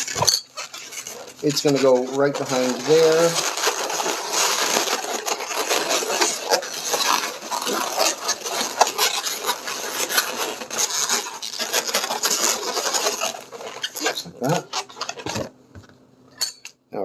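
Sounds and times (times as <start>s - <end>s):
balloons rubbing and squeaking: 0.0s - 15.6s.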